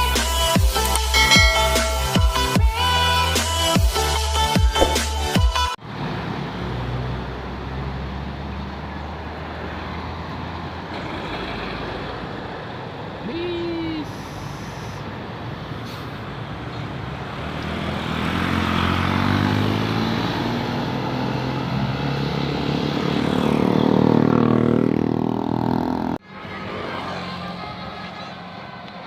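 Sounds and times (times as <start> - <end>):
bus engine passing: 0.0 - 13.3, 14.0 - 29.0.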